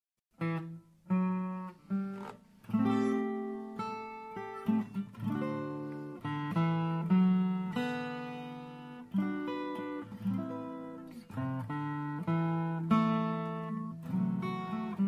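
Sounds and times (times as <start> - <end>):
acoustic guitar chords: 0.4 - 15.0.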